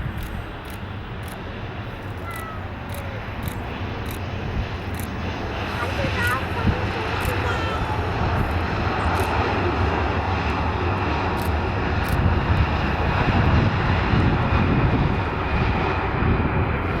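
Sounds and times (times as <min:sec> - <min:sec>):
jet engines running loudly: 0:00.0 - 0:17.0.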